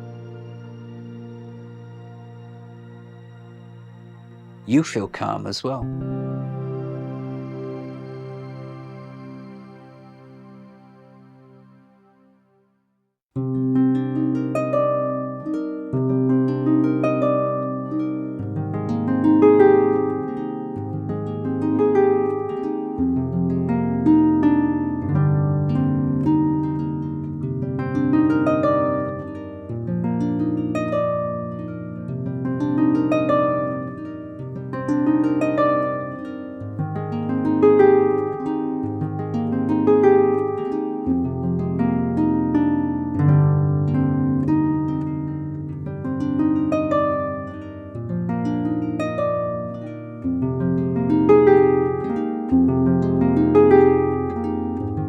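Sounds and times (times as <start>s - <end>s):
plucked harp-like music: 0.0s - 11.8s, 13.4s - 55.0s.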